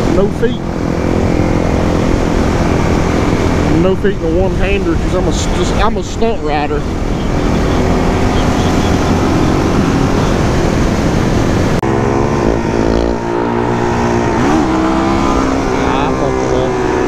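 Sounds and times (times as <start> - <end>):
motorcycle engine revving: 0.0 - 17.0
wind rush: 0.0 - 17.0.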